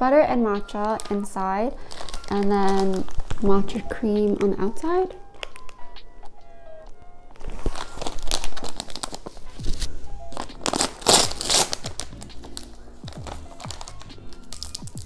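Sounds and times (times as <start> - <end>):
background music: 0.0 - 15.0
plastic bag crinkling and tearing: 0.7 - 5.9, 7.3 - 15.0.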